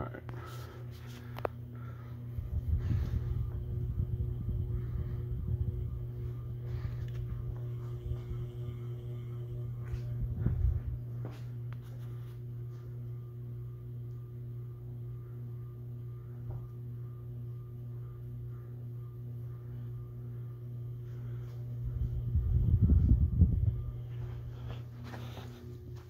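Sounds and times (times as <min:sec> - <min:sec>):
ceiling fan motor humming: 0:00.0 - 0:26.0
low rumble: 0:00.9 - 0:15.4, 0:17.0 - 0:25.4.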